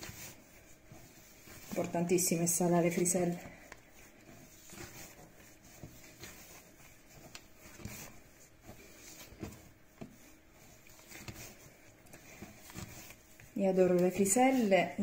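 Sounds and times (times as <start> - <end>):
dough kneading pats and thuds: 0.0 - 15.0.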